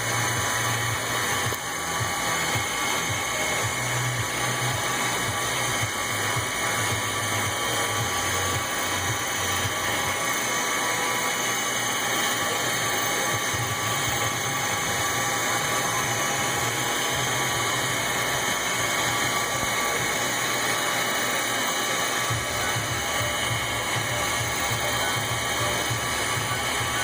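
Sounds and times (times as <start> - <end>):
machine tool running: 0.0 - 27.0.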